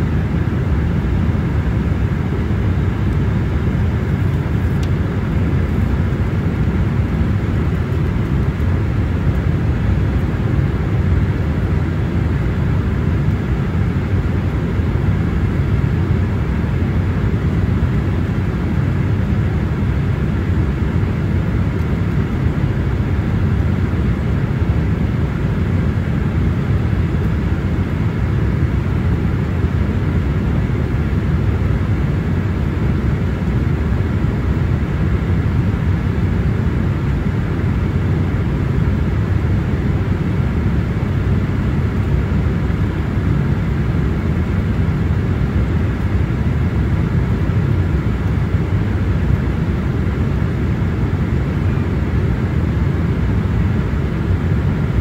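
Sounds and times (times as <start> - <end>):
airplane cabin airflow and engines: 0.0 - 55.0.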